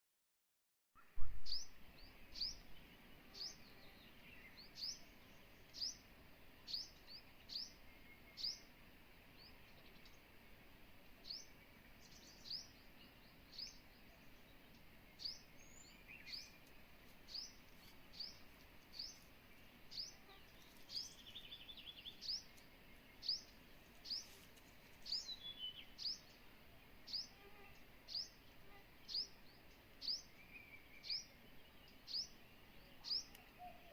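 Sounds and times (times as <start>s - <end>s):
bird chirping: 1.0s - 10.3s, 11.2s - 33.9s
birds calling softly: 1.0s - 33.9s.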